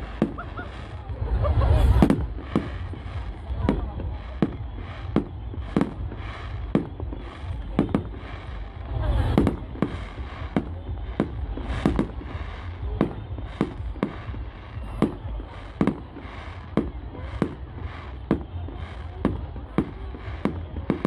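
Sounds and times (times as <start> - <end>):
low rumble: 0.0 - 20.7
fireworks bangs: 0.0 - 21.0.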